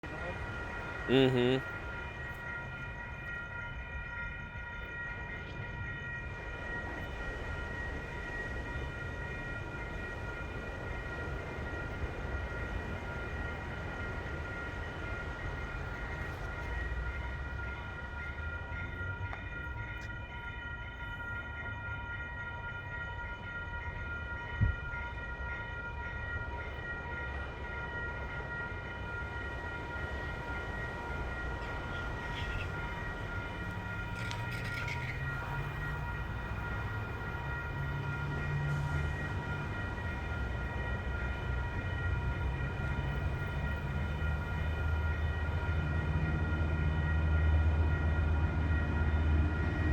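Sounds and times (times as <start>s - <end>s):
train engine rumble: 0.0s - 49.9s.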